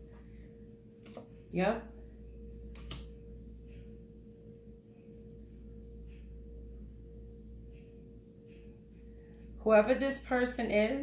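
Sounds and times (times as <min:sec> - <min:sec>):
faint steady tone: 0:00.0 - 0:11.0
low hum: 0:00.0 - 0:11.0.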